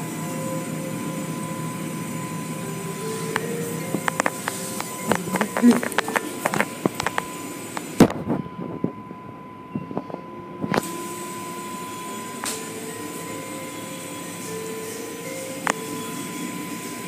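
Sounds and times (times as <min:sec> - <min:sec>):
steady tone: 0:00.0 - 0:17.0.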